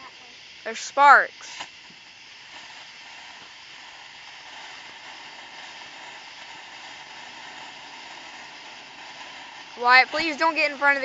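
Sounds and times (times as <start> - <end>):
fountain firework hissing: 0.0 - 11.0.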